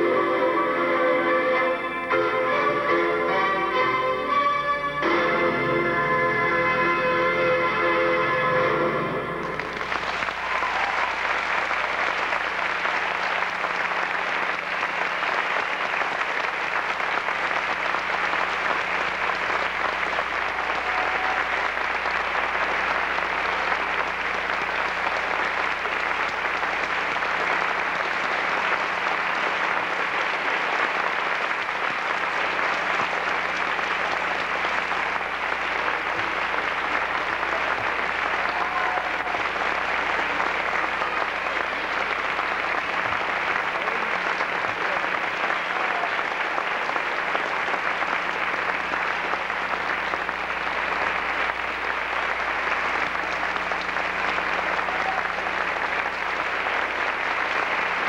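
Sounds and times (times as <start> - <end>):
audience applauding: 9.2 - 58.0.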